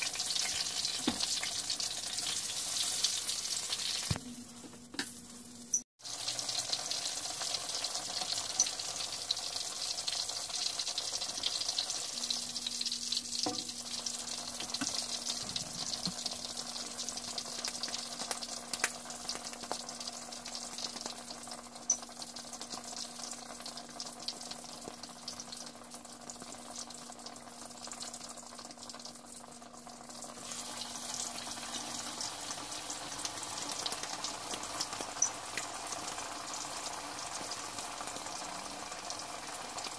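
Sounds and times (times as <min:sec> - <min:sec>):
patties sizzling in oil: 0:00.0 - 0:39.9.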